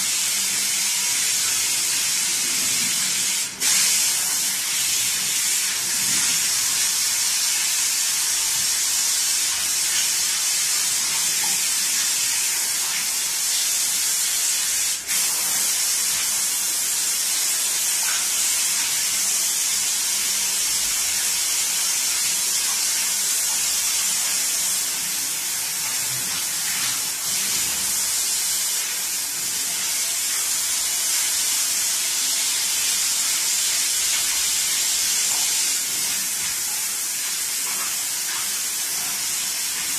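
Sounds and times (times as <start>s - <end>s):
hose spray hissing: 0.0s - 39.9s.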